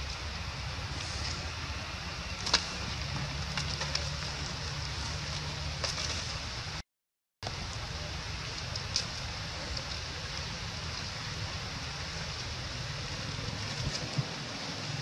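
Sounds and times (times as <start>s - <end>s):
outdoor background hiss: 0.0s - 6.8s, 7.4s - 15.0s.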